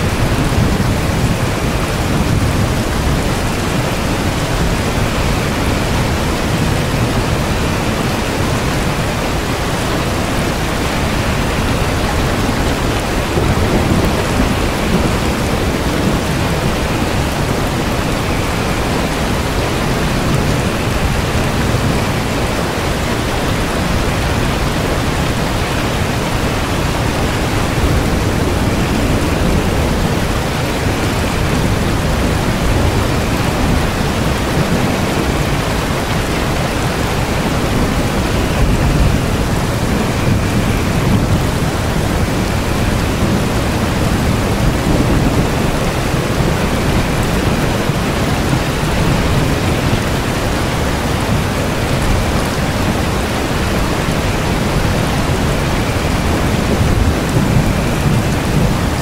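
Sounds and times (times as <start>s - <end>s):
deep thunder rumble: 0.0s - 59.0s
steady rain: 0.0s - 59.0s.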